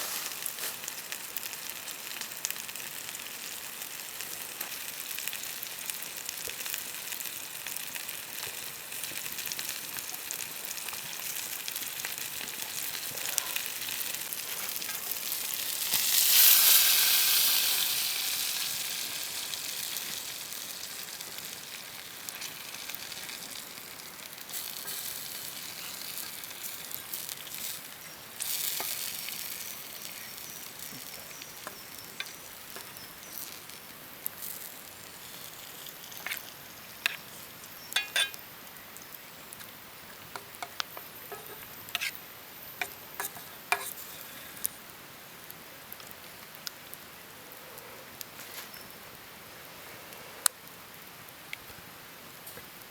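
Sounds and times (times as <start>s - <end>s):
food sizzling in a pan: 0.0s - 47.2s
small crackles: 0.0s - 49.1s.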